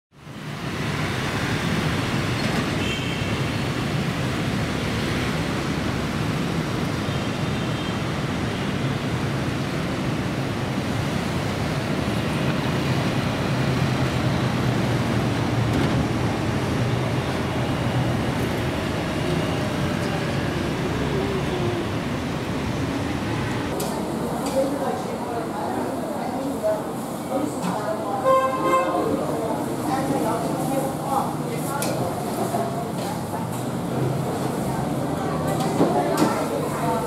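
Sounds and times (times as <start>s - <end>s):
road traffic rumble: 0.2s - 37.0s.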